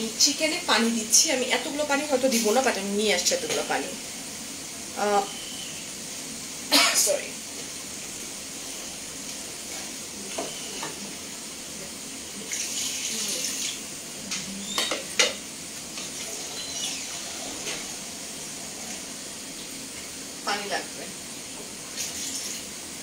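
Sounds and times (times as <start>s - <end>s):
water hissing in hot pot: 0.0s - 23.0s.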